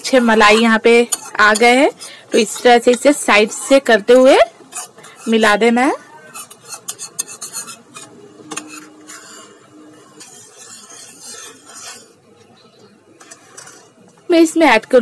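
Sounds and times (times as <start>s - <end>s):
spoon scraping and clinking in pot: 0.0s - 12.2s, 13.1s - 14.2s.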